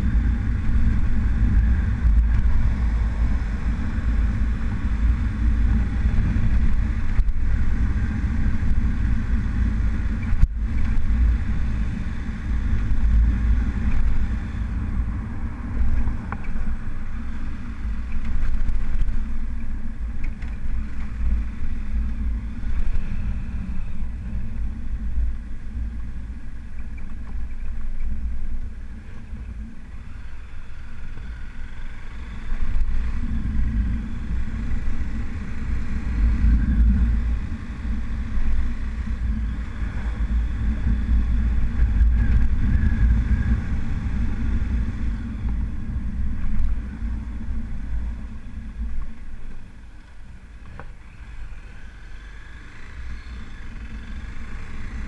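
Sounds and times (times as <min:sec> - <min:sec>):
motorcycle engine running: 0:00.0 - 0:55.0
wind rumble on microphone: 0:00.0 - 0:55.0.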